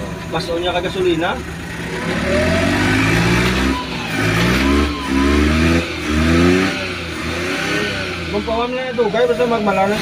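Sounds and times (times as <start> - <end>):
van engine revving: 0.0 - 10.0.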